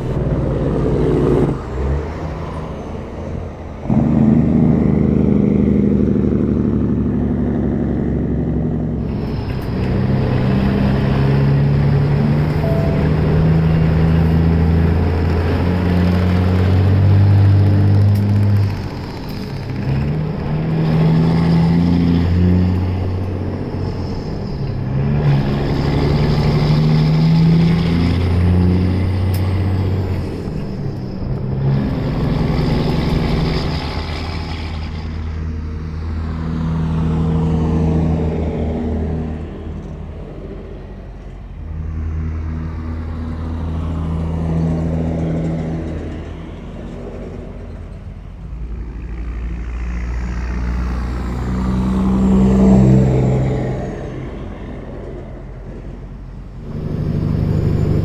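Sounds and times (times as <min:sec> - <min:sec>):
diesel truck engine accelerating: 0:00.0 - 0:58.0.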